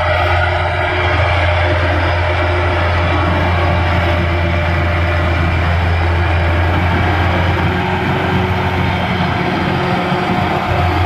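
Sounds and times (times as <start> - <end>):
combine harvester diesel engine droning: 0.0 - 11.0.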